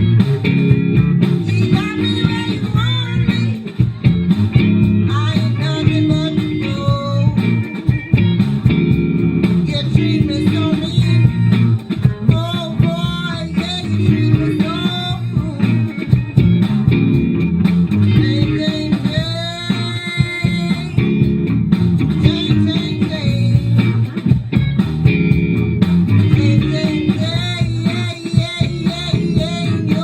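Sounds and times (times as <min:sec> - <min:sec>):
bass guitar line: 0:00.0 - 0:30.0
blues-soul band playing: 0:00.0 - 0:30.0
lead guitar: 0:00.0 - 0:30.0.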